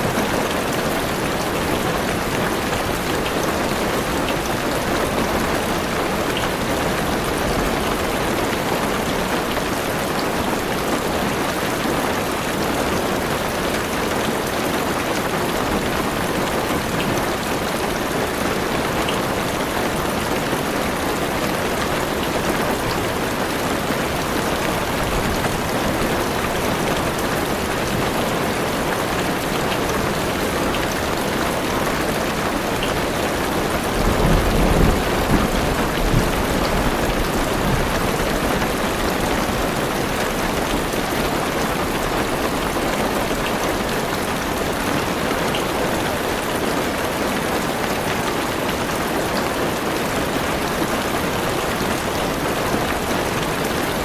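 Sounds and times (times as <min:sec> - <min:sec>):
rain pattering on car roof: 0:00.0 - 0:54.0.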